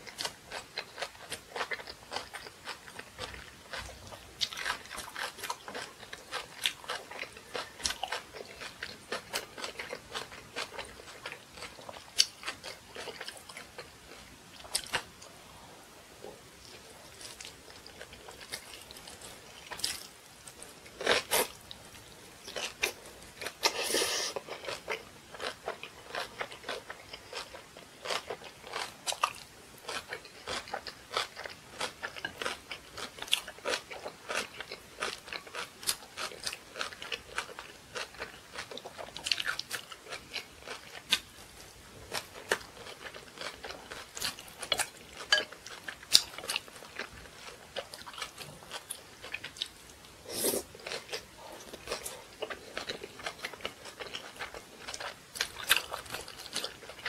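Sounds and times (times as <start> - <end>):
crisp chewing crunches: 0.0 - 15.3, 16.6 - 57.0.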